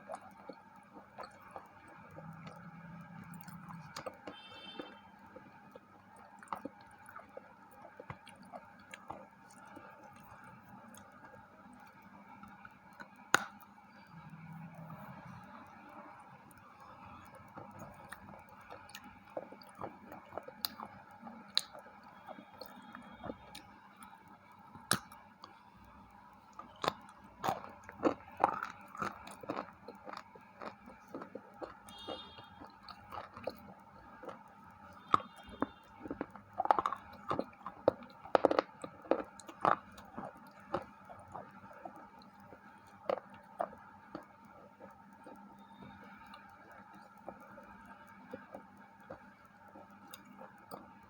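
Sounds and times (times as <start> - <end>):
chewing wafer bar crunches: 0.0 - 11.4, 16.8 - 25.6, 26.6 - 51.0
faint steady hum: 0.0 - 51.0.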